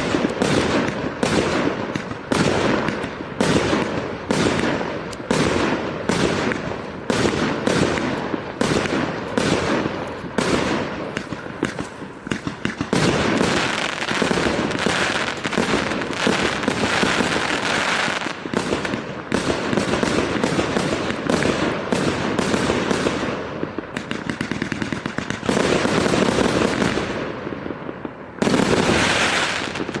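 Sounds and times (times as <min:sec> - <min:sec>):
loud firework burst: 0:00.0 - 0:27.4
fireworks crackling: 0:00.0 - 0:30.0
fireworks shots launching: 0:00.0 - 0:30.0.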